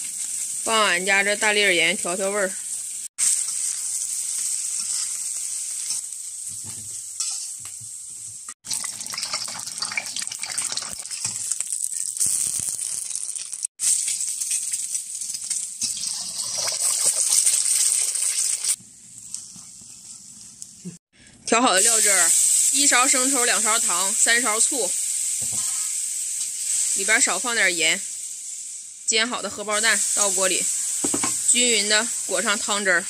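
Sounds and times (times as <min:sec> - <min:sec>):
hot oil sizzling in a wok: 0:00.0 - 0:33.0.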